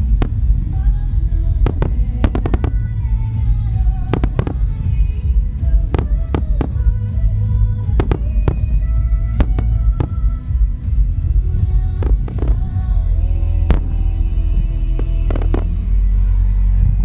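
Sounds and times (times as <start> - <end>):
fireworks bursting: 0.0 - 15.9
heavy low rumble: 0.0 - 17.0
music over loudspeakers: 0.0 - 17.0.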